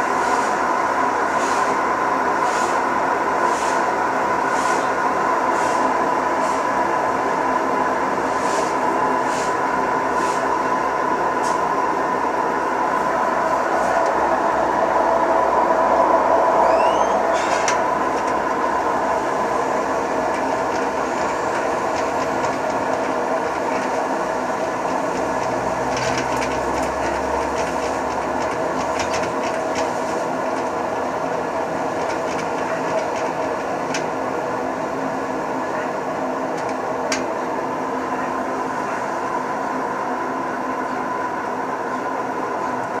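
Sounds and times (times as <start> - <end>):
washing machine drone and whine: 0.0 - 43.0.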